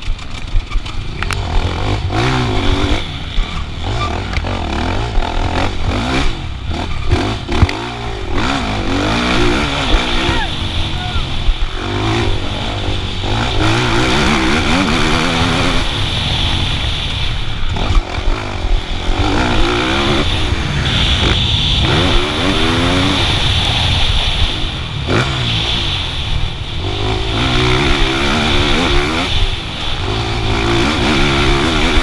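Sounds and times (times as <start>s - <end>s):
heavy low rumble: 0.0s - 31.6s
motocross bike engine revving: 0.0s - 32.0s.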